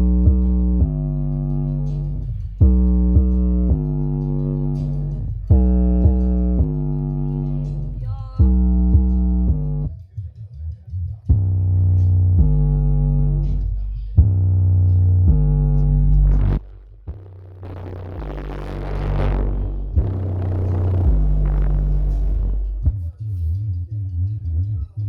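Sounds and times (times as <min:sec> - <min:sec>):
plucked bass-line music: 0:00.0 - 0:25.0.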